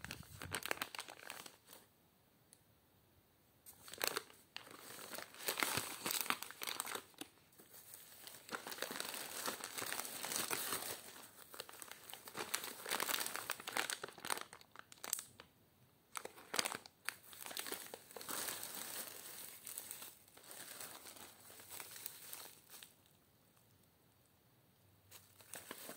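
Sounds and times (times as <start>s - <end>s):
plastic wrapping crinkling: 0.0s - 1.9s, 3.7s - 15.5s, 16.1s - 23.2s, 25.1s - 25.9s.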